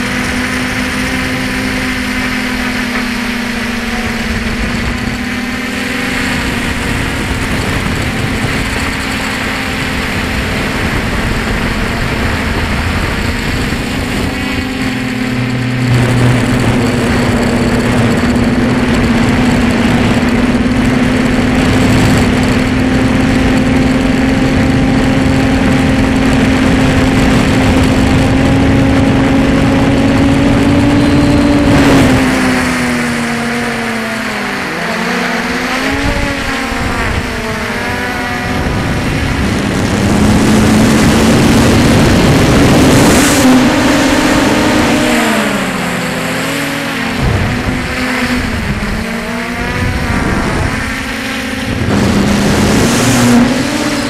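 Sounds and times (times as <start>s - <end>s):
drone motor whine: 0.0s - 54.0s
wind rushing over microphone: 0.0s - 54.0s.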